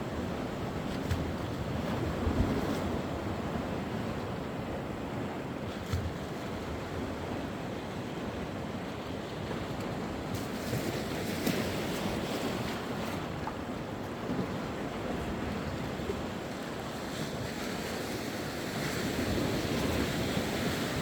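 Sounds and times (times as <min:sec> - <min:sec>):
sea waves washing ashore: 0:00.0 - 0:21.0.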